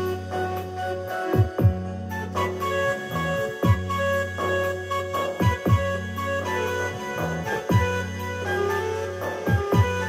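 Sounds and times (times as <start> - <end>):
electronic keyboard melody: 0.0 - 10.0.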